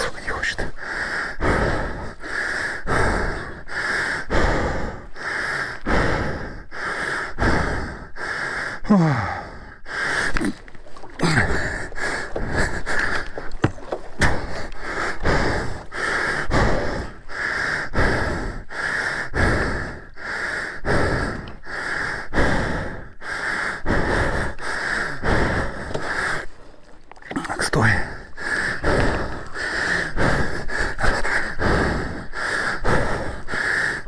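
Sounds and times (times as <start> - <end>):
man panting hard: 0.7 - 26.6, 27.9 - 34.0.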